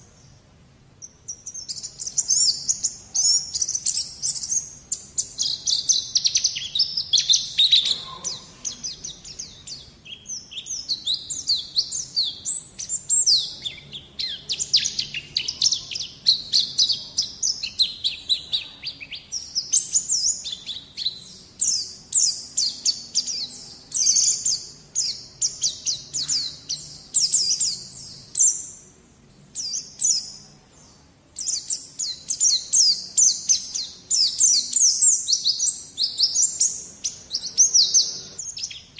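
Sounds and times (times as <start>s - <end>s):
bird twittering chirps: 1.0s - 28.9s, 29.5s - 38.9s.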